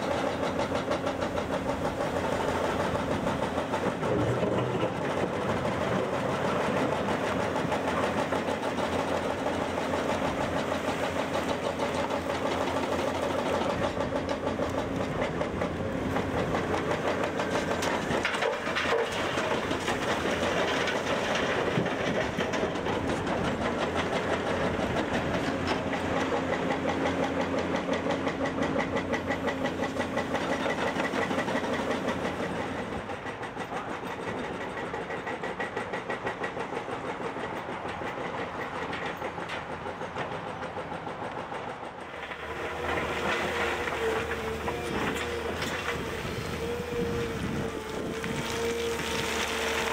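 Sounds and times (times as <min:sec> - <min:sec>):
diesel engine clattering: 0:00.0 - 0:49.9.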